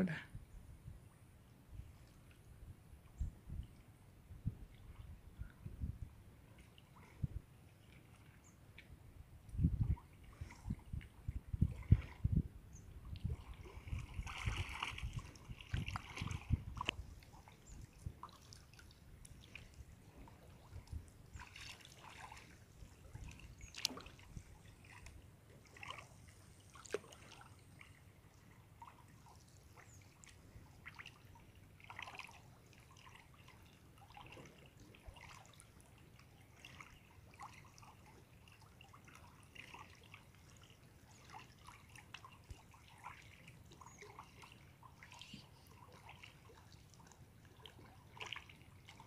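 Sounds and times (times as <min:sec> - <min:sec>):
small water splashes: 0:06.4 - 0:49.0.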